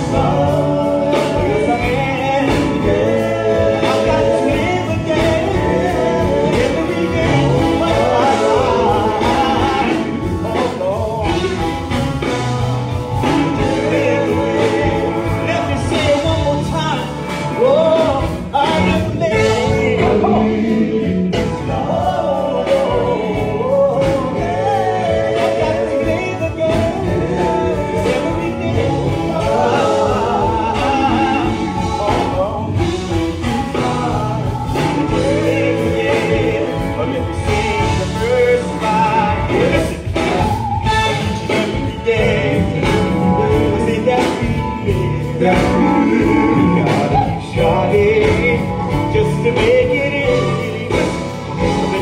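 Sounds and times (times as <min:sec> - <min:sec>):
band with bass line: 0:00.0 - 0:52.0
man singing lead: 0:00.0 - 0:52.0.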